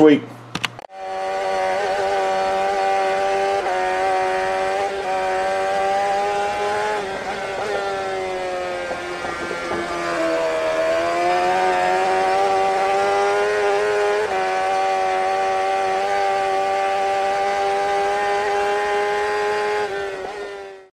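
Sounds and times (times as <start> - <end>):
engine running at high revs: 0.9 - 20.9.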